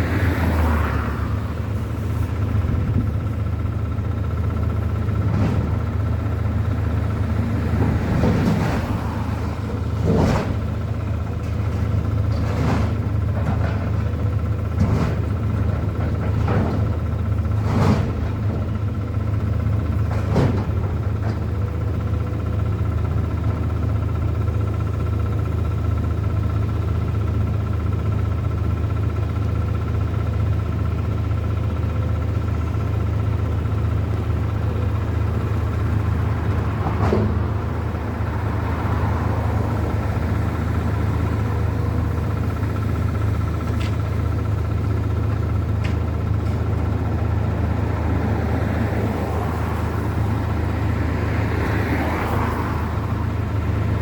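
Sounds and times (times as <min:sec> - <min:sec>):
low engine rumble: 0:00.0 - 0:54.0.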